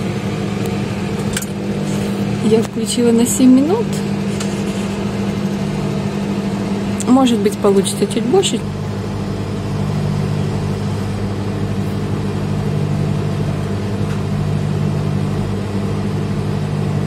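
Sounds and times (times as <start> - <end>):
microwave electrical hum: 0.0 - 17.0
microwave fan whir: 0.0 - 17.0.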